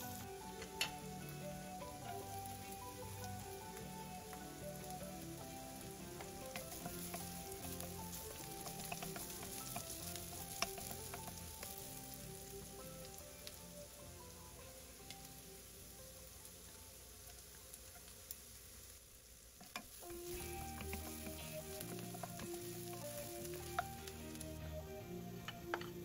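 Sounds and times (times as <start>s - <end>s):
onion sizzling in oil: 0.0s - 26.0s.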